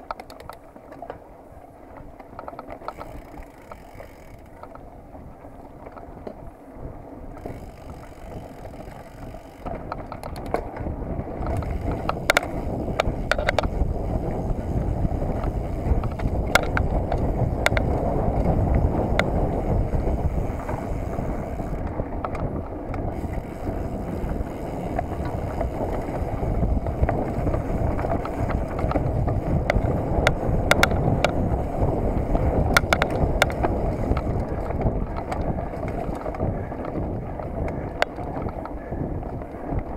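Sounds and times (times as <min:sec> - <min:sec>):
bike rattling and clicking: 0:00.0 - 0:39.9
wind buffeting microphone: 0:01.8 - 0:39.9.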